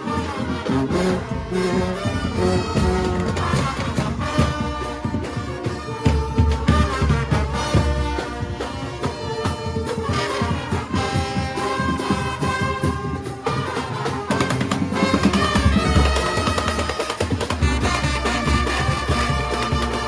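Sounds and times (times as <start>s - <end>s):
brass horns playing melody: 0.0s - 20.0s
busy drum beat: 0.0s - 20.0s.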